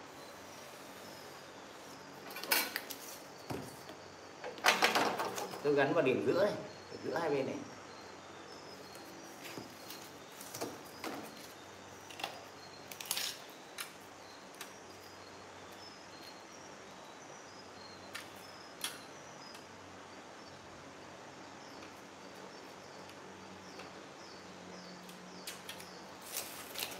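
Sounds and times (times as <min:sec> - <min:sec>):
faint high chirping: 0:00.0 - 0:26.9.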